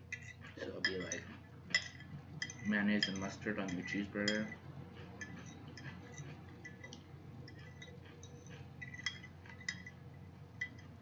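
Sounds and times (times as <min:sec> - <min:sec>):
metal fork clinking on a dish: 0:00.1 - 0:04.6, 0:05.2 - 0:11.0.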